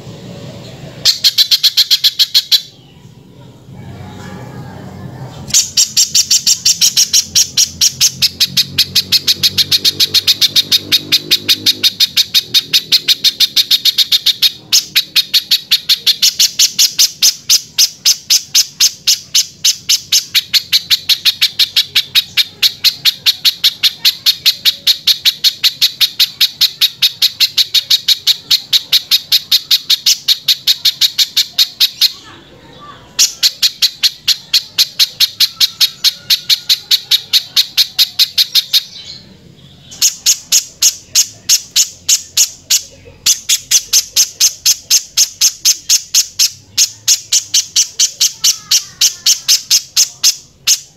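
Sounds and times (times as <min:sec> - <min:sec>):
bird calling harsh sharp notes: 0:01.0 - 0:03.1, 0:05.4 - 0:50.9.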